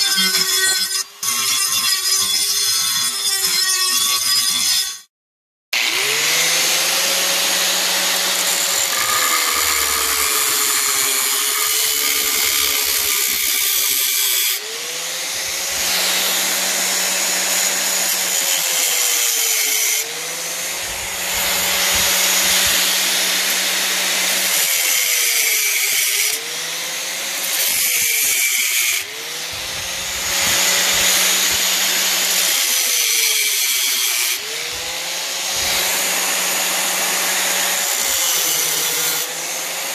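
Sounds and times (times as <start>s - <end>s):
angle grinder cutting metal: 0.0s - 5.1s, 5.7s - 39.9s.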